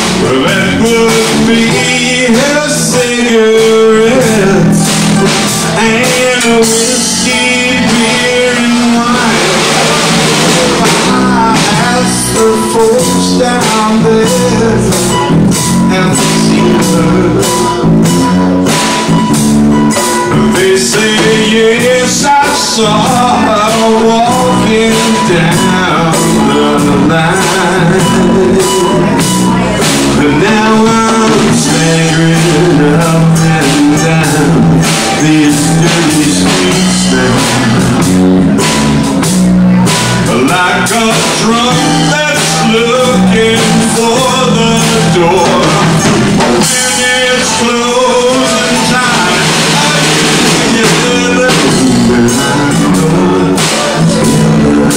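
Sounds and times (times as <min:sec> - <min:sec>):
bending lead line through microphone: 0:00.0 - 0:54.9
blues band playing: 0:00.0 - 0:54.9.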